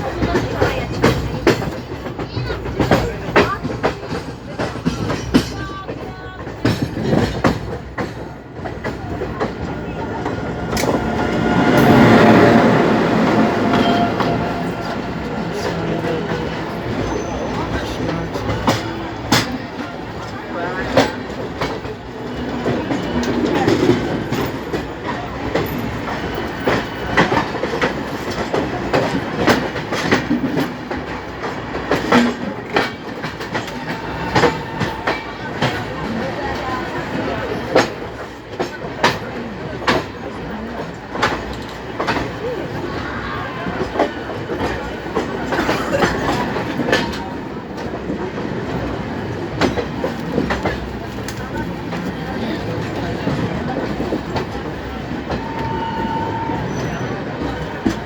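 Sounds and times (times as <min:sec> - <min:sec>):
steady train rumble: 0:00.0 - 0:58.0
train wheels clattering over rail joints: 0:00.0 - 0:58.0.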